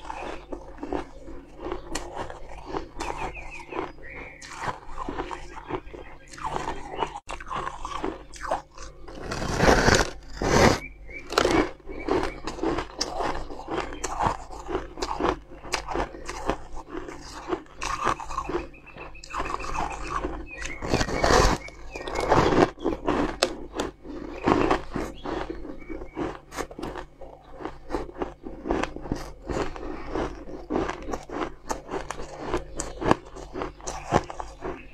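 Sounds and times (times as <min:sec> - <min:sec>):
ice being chewed: 0:00.0 - 0:34.9.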